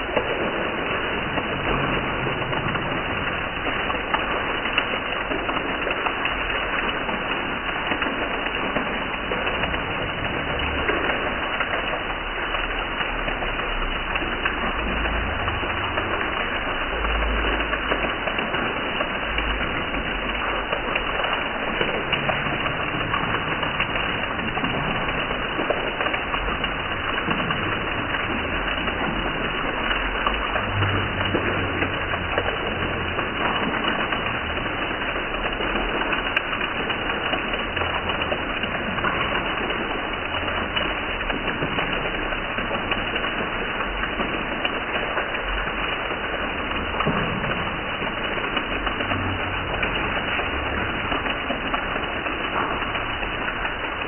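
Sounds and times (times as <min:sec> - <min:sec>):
heavy rain splashing on concrete: 0:00.0 - 0:54.0.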